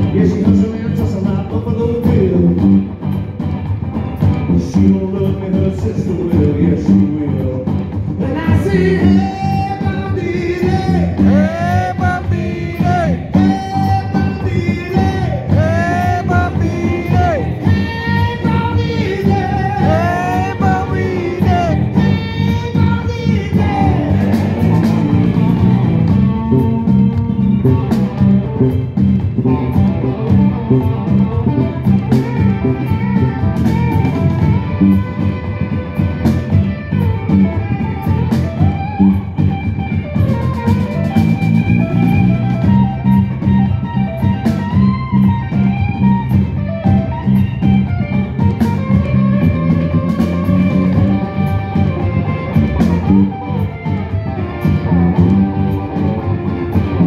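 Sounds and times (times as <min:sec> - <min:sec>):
rhythm and blues band playing: 0:00.0 - 0:57.0.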